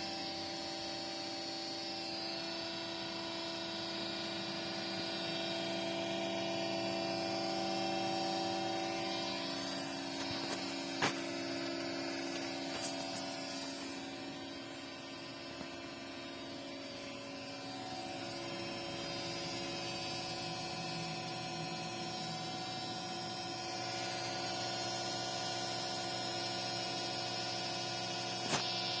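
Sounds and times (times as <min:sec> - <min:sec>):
printer mechanical hum: 0:00.0 - 0:29.0.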